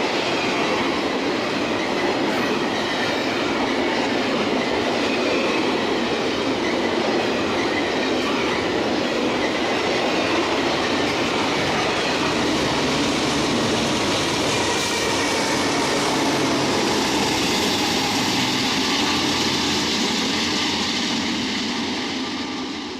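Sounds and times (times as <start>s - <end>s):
freight train wheels clattering: 0.0s - 22.9s.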